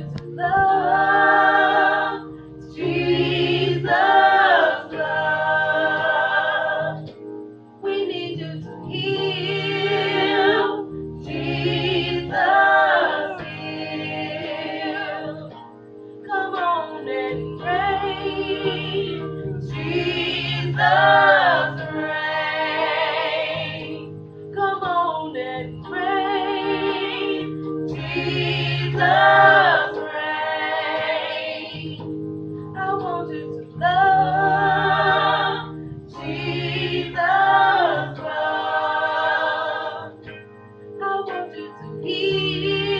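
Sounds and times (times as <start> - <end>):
women singing gospel: 0.0 - 7.2, 7.8 - 15.6, 16.2 - 32.1, 32.7 - 40.4, 41.0 - 42.9
held low accompaniment notes: 0.0 - 42.9.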